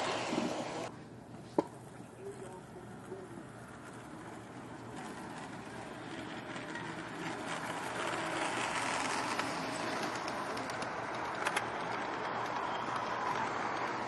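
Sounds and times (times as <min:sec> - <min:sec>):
wheels clicking at rail joints: 0:01.6 - 0:14.0
model train wheels rumbling on rails: 0:02.2 - 0:14.0.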